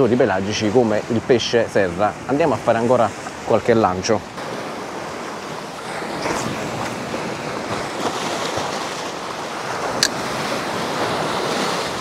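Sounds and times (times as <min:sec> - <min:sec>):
sea waves washing against rocks: 0:00.0 - 0:12.0.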